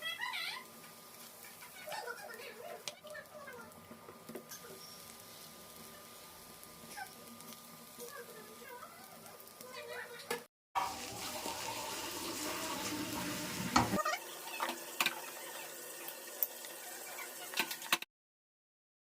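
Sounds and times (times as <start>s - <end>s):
rice sizzling in a pan: 0.0s - 18.0s.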